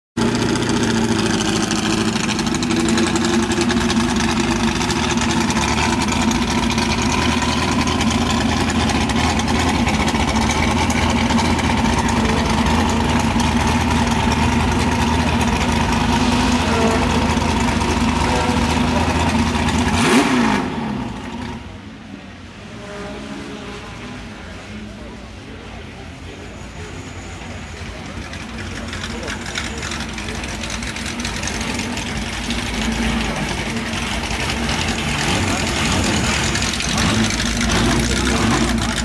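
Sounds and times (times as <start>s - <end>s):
car rolling slowly by: 0.2s - 22.0s, 24.2s - 39.0s
race car engines idling: 0.2s - 39.0s.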